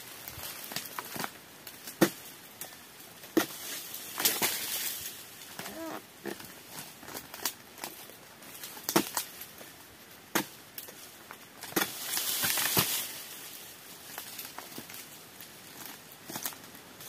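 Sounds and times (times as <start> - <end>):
fronds rustling: 0.0 - 17.0.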